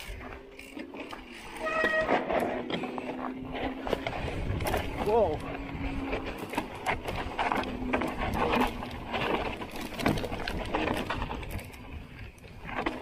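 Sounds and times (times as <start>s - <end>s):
bike knocks and rattles: 0.0s - 13.0s
bike tyres crunching over stones: 0.0s - 13.0s.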